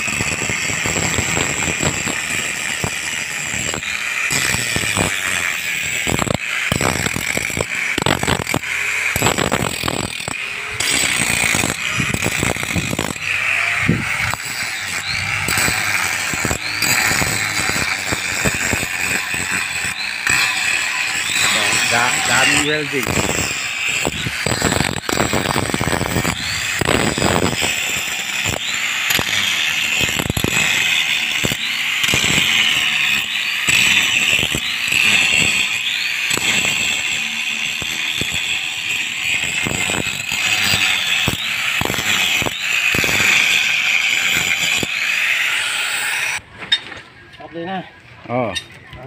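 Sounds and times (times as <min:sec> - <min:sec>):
angle grinder grinding steel: 0:00.0 - 0:46.4.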